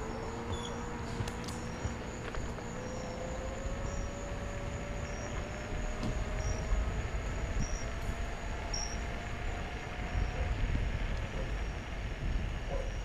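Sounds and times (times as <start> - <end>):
electric motor whine: 0.0 - 13.0
wind and road noise: 0.0 - 13.0.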